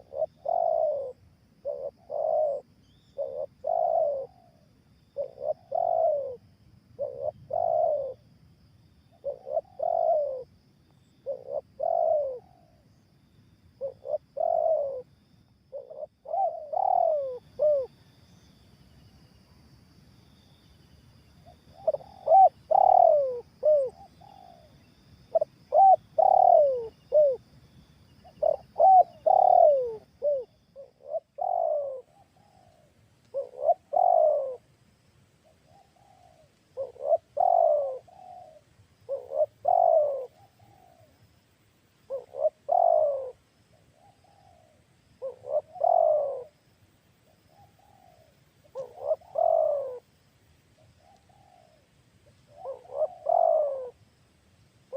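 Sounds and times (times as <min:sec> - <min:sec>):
dove cooing: 0:00.0 - 0:08.3, 0:09.1 - 0:12.8, 0:13.8 - 0:15.1, 0:15.7 - 0:18.4, 0:21.4 - 0:27.5, 0:28.2 - 0:34.7, 0:35.4 - 0:41.3, 0:42.1 - 0:46.7, 0:47.3 - 0:50.1, 0:50.8 - 0:54.2.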